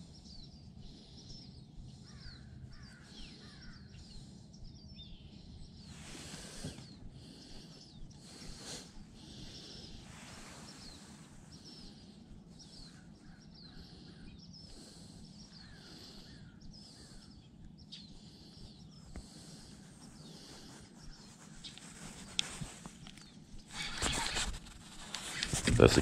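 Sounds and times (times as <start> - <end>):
low background rumble: 0.0 - 26.0
small birds chirping: 0.0 - 26.0.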